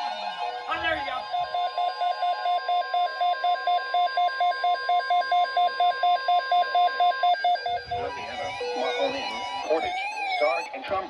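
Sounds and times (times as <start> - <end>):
steady warning alarm tone: 0.0 - 11.0
fast warbling beep: 0.6 - 10.7.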